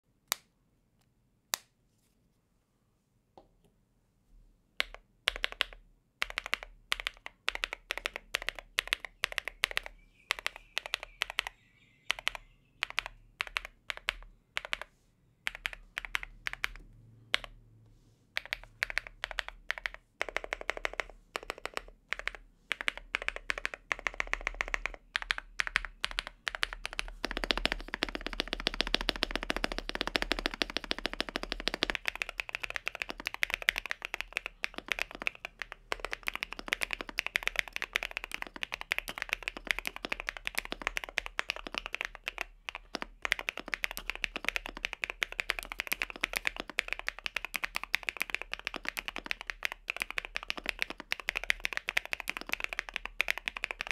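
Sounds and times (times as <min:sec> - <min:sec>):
mechanical keyboard typing: 0:04.8 - 0:14.9, 0:15.5 - 0:17.6, 0:18.4 - 0:53.9.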